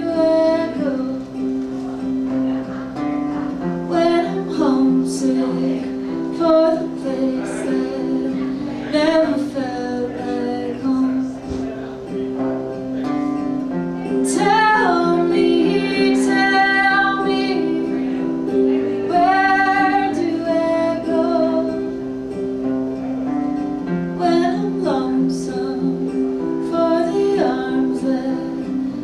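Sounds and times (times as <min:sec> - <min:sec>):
woman singing folk song: 0:00.0 - 0:11.8, 0:13.4 - 0:22.6, 0:23.5 - 0:29.0
lap steel guitar: 0:00.0 - 0:29.0
strummed acoustic guitar: 0:00.0 - 0:29.0.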